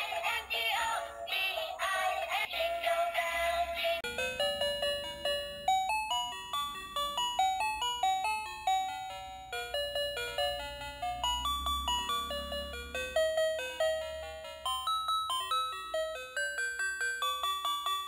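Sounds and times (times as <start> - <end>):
electronic toy chime melody: 0.0 - 18.0.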